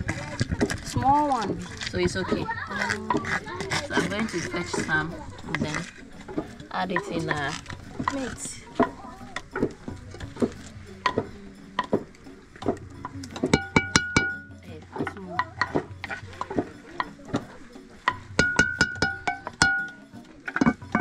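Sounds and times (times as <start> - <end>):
wooden spoon knocking on metal pot: 0.1 - 21.0.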